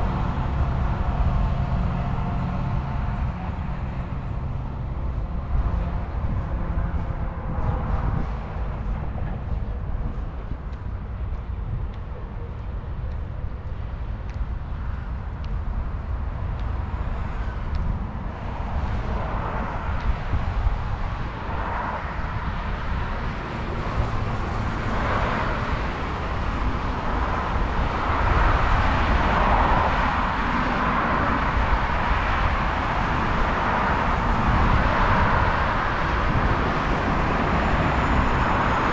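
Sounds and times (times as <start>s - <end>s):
road traffic rushing: 0.0s - 38.9s.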